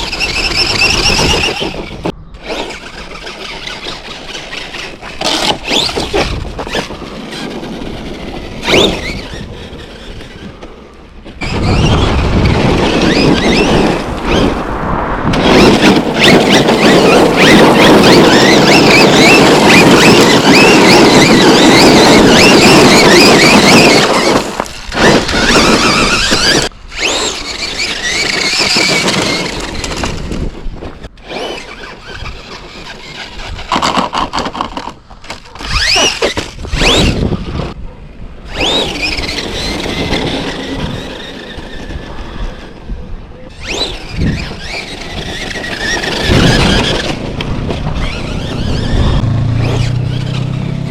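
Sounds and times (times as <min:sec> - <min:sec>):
rc truck motor whine: 0:00.0 - 0:14.7, 0:15.3 - 0:37.8, 0:38.4 - 0:50.9
tyre noise: 0:00.0 - 0:50.9.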